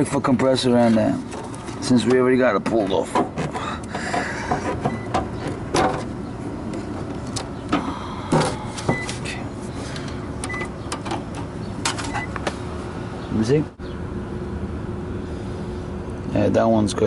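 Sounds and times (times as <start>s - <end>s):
equipment humming: 0.0s - 16.7s.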